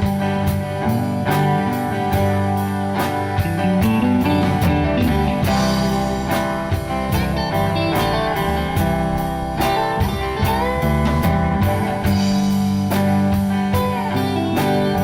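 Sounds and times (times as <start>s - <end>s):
bass: 0.0s - 15.0s
lead guitar line: 0.0s - 15.0s
steady drum beat: 0.0s - 15.0s.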